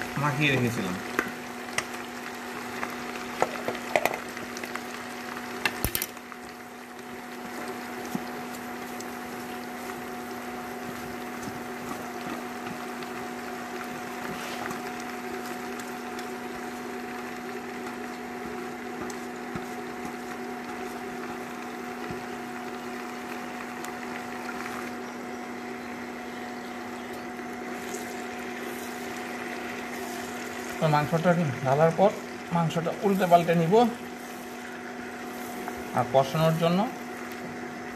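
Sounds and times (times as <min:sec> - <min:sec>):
electrical hum: 0:00.0 - 0:37.9
food sizzling in oil: 0:00.0 - 0:37.9.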